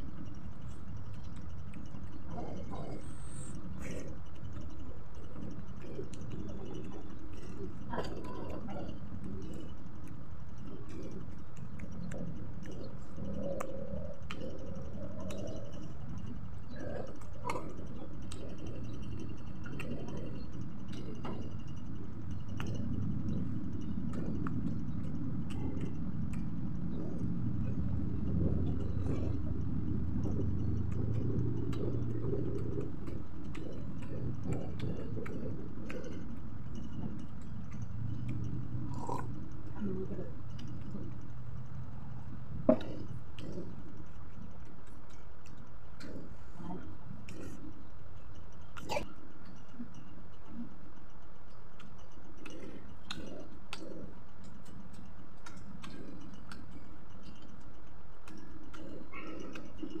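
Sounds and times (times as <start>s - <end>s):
low background noise: 0.0s - 60.0s
steady low hum: 0.0s - 60.0s.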